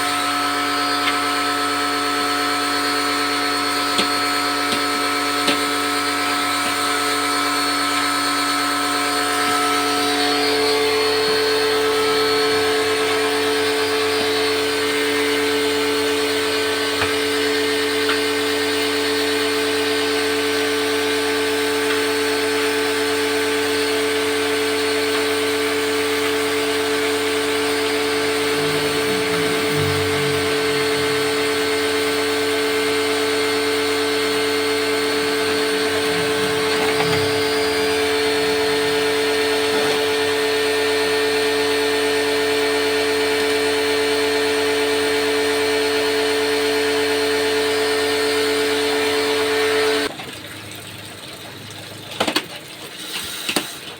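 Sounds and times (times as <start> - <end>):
small electric motor humming: 0.0 - 50.1.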